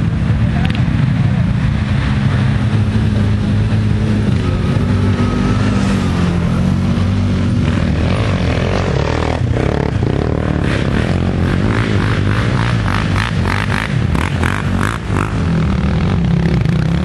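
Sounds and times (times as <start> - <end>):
quad bike engines revving: 0.0 - 17.0.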